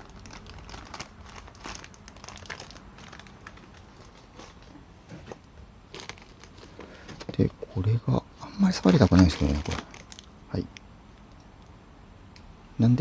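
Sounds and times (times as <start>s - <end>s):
plastic wrapping crinkling: 0.0s - 7.9s, 8.6s - 11.4s.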